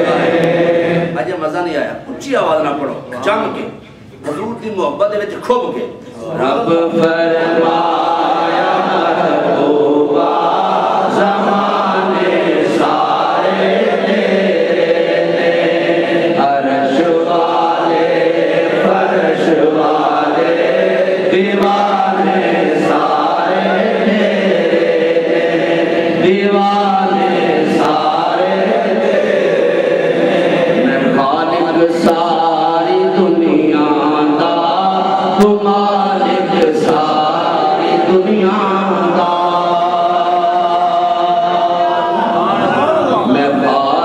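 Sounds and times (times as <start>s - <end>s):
man chanting into a microphone: 0.0s - 14.4s, 16.4s - 20.5s, 26.1s - 29.9s, 30.8s - 44.0s.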